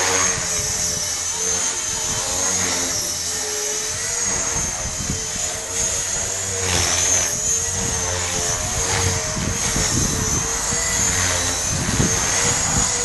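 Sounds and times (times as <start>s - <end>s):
buzz of spinning rotor: 0.0s - 13.0s
high-pitched motor whine: 0.0s - 13.0s.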